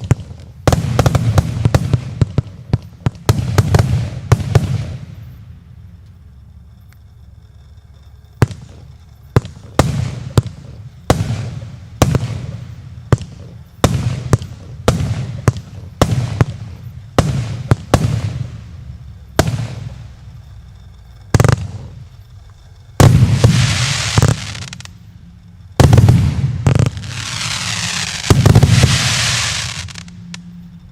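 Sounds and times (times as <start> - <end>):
fireworks bangs: 0.0 - 5.6, 8.4 - 30.4
fireworks crackling: 0.0 - 30.9.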